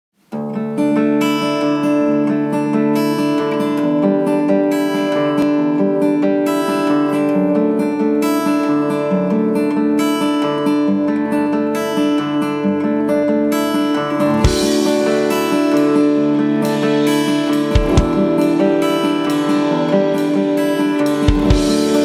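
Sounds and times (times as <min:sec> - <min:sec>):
strummed acoustic guitar: 0:00.2 - 0:22.0.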